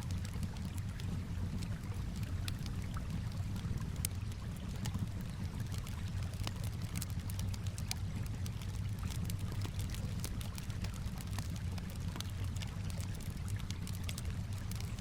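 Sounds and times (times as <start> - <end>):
calm water: 0.0 - 15.0
campfire crackling and popping: 0.0 - 15.0.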